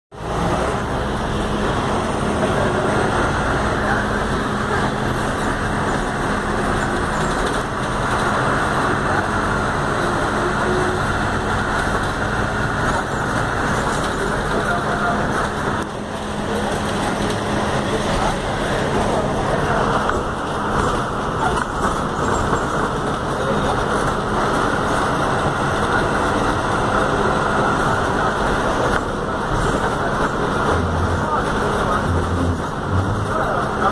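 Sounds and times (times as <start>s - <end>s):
bus engine hum: 0.1s - 33.9s
road noise: 0.1s - 33.9s.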